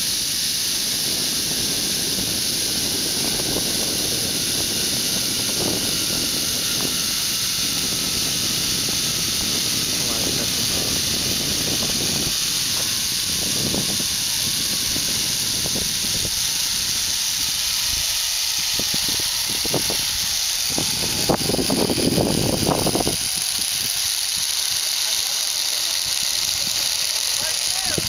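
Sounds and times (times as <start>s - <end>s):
wind on microphone: 0.0s - 24.5s.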